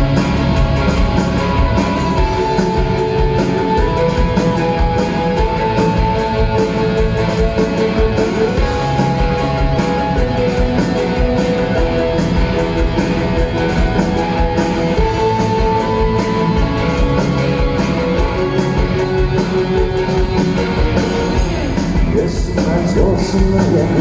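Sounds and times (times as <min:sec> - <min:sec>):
rock band playing instrumental: 0:00.0 - 0:24.0.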